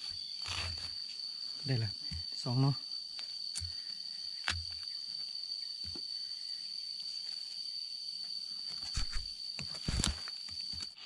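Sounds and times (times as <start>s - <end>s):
insect droning: 0.0s - 11.0s.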